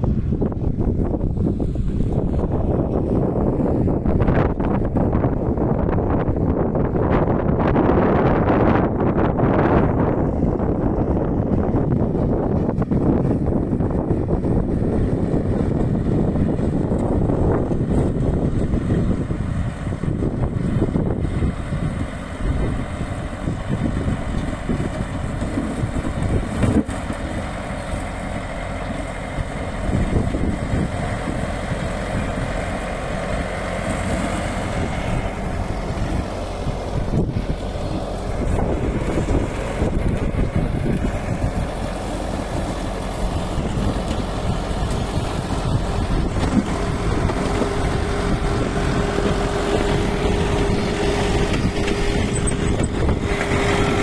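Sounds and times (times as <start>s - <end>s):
bulldozer engine rumbling: 0.0s - 54.0s.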